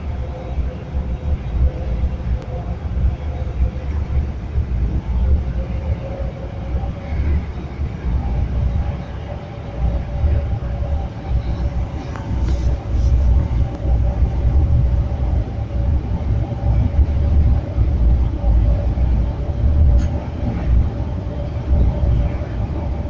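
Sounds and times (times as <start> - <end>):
underground train rumbling: 0.0 - 23.0.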